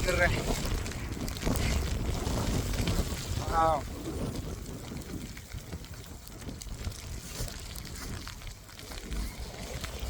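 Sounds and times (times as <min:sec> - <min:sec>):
ice pellets ticking: 0:00.0 - 0:10.0
wind buffeting microphone: 0:00.0 - 0:10.0.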